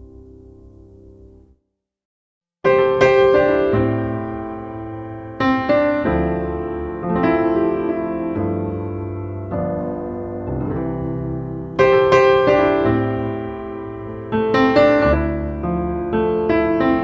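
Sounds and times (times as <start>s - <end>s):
slow solo piano chords: 2.7s - 17.0s.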